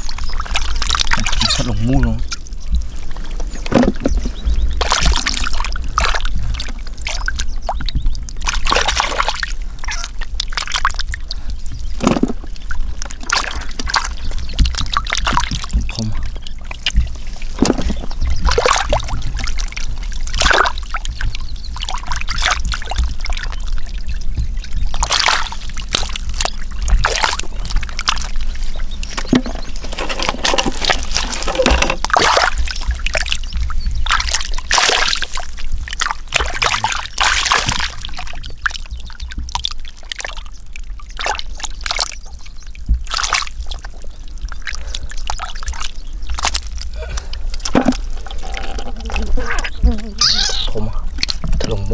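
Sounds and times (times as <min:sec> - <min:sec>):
muddy water splashing: 0:00.0 - 0:51.9.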